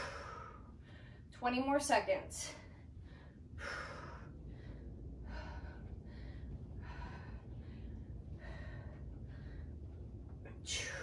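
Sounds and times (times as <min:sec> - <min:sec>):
woman breathing hard: 0:00.0 - 0:01.4, 0:02.6 - 0:11.0.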